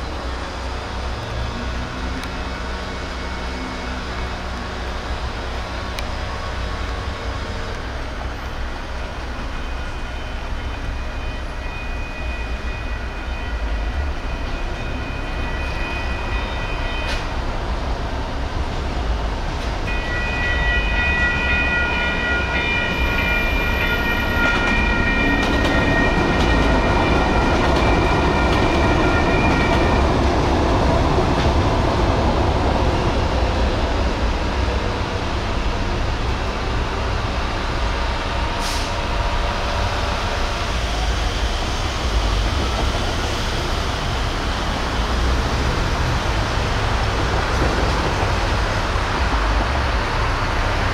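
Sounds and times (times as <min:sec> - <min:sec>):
light rail train rumbling: 0:00.0 - 0:50.9.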